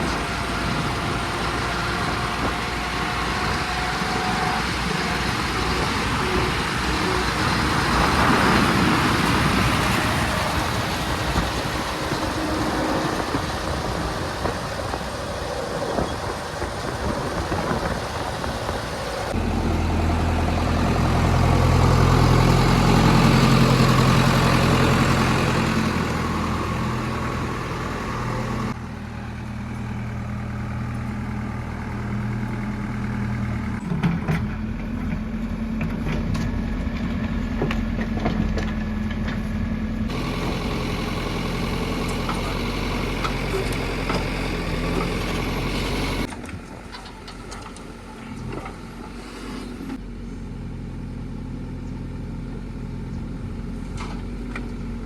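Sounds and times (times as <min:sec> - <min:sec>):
diesel engine idling: 0:00.0 - 0:49.2.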